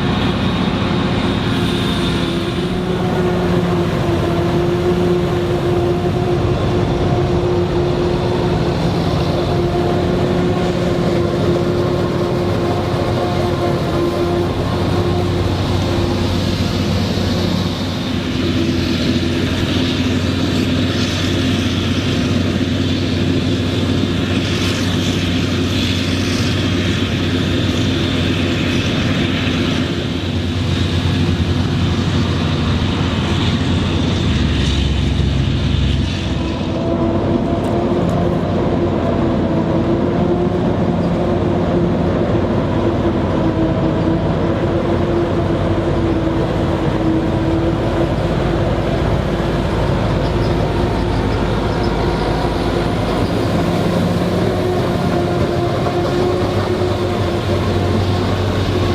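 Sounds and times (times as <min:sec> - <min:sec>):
diesel farm machinery running: 0:00.0 - 0:58.9.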